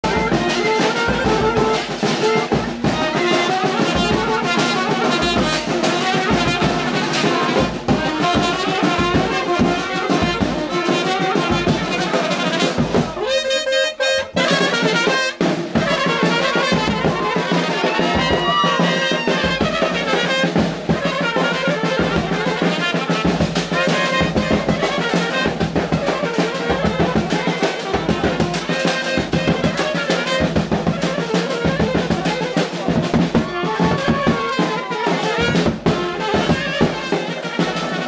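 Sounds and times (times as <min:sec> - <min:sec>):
brass band dance music: 0:00.0 - 0:38.0
steady drum beat: 0:00.0 - 0:38.0.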